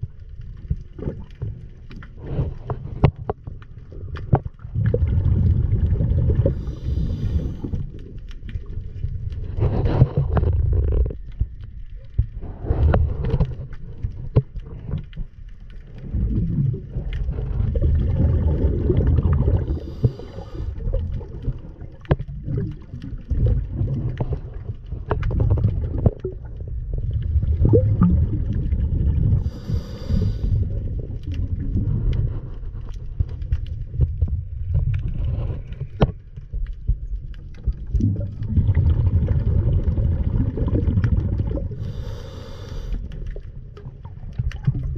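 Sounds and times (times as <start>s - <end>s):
underwater rumble and sloshing: 0.0s - 44.9s.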